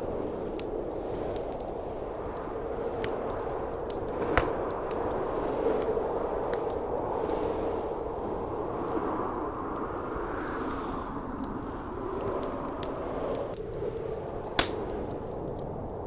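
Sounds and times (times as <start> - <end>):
blizzard wind: 0.0 - 16.0
wood fire crackling and popping: 0.0 - 16.0.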